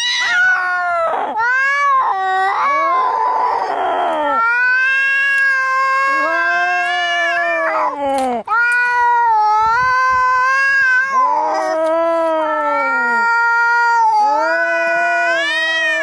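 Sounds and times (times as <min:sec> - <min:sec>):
cat caterwauling: 0:00.0 - 0:16.0.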